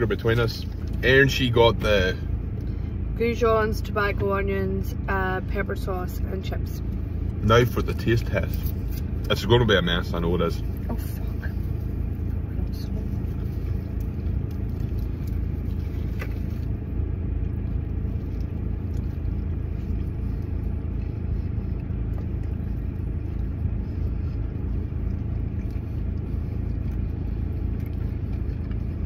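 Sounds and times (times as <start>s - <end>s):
low rumble inside car cabin: 0.0s - 29.0s.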